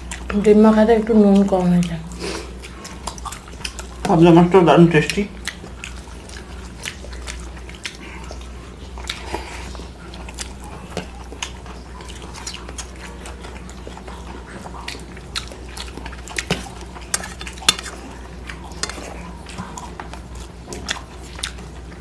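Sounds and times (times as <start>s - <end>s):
chewing and lip-smacking: 0.0s - 22.0s
low steady hum: 0.0s - 22.0s.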